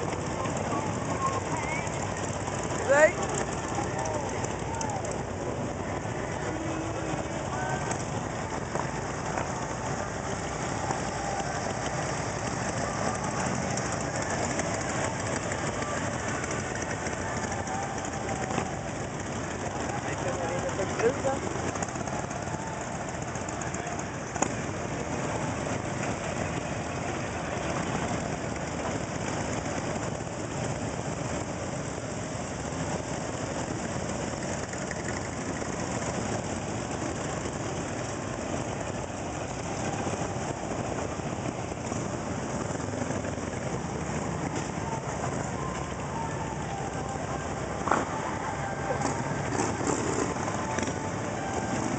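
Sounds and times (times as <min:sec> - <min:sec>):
motorcycle engines riding off: 0:00.0 - 0:51.9.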